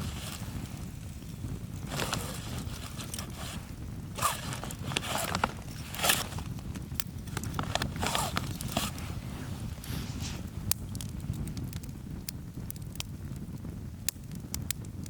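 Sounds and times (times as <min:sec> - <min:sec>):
campfire crackling and popping: 0:00.0 - 0:04.8, 0:05.4 - 0:15.0.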